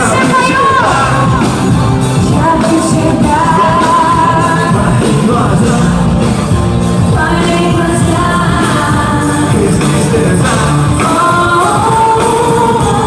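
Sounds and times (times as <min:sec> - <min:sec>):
live pop song over sound system: 0:00.0 - 0:13.0.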